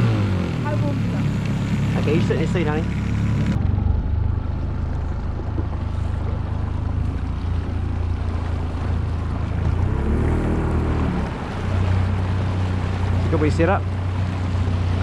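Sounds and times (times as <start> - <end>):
outboard motor running: 0.0 - 15.0
water noise: 0.0 - 15.0
wind: 0.0 - 15.0.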